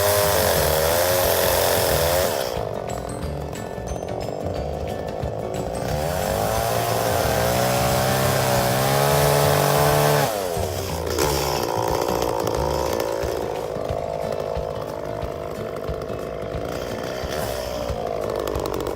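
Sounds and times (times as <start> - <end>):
chainsaw engine revving: 0.0 - 18.9.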